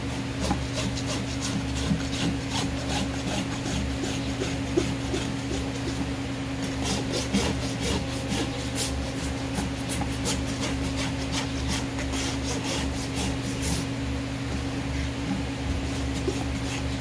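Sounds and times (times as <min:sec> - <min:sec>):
hoof rasp scraping: 0:00.4 - 0:13.9, 0:15.8 - 0:17.0.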